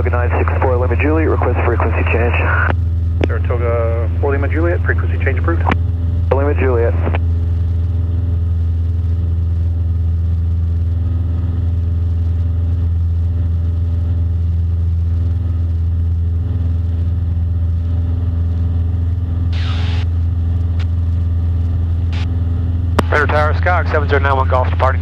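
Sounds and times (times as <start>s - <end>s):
propeller plane engine drone: 0.0s - 25.0s.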